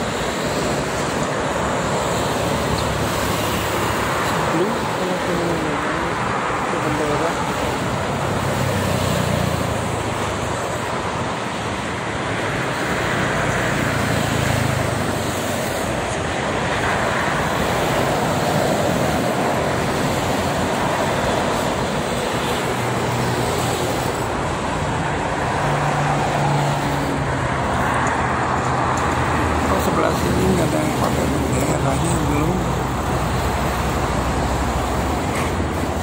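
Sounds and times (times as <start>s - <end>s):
highway traffic roar: 0.0s - 36.0s
truck engine drone: 0.0s - 36.0s.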